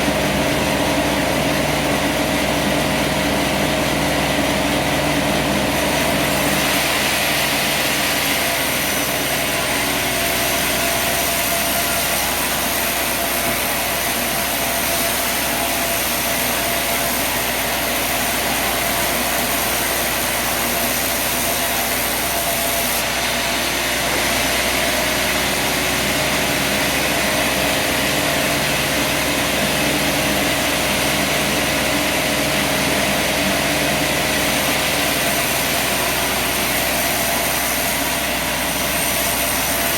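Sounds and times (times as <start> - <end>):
sawmill engine droning: 0.0 - 39.9.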